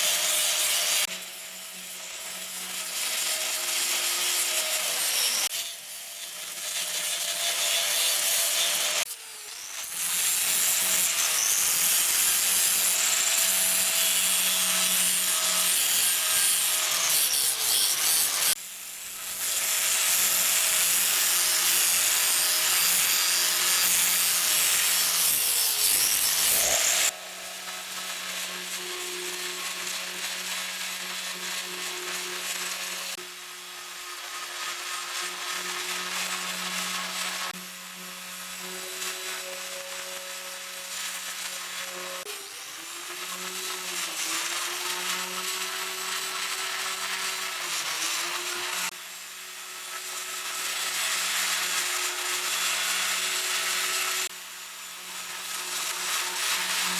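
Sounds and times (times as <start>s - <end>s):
power tool grinding metal: 0.0s - 56.9s.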